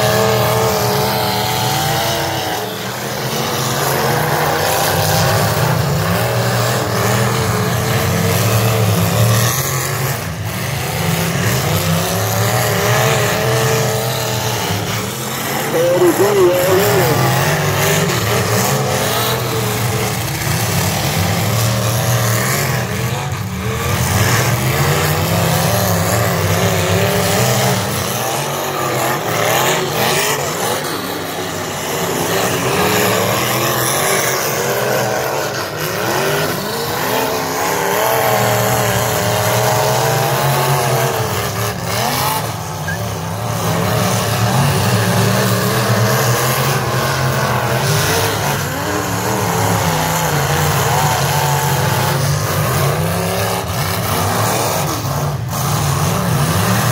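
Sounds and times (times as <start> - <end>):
car engines revving: 0.0 - 56.9.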